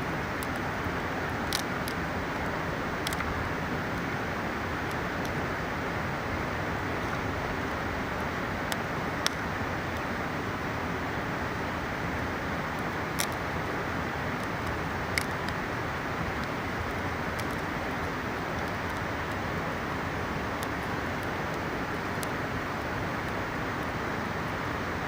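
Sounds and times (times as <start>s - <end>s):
river rushing: 0.0s - 25.0s
campfire popping and crackling: 0.2s - 10.2s, 12.6s - 24.0s.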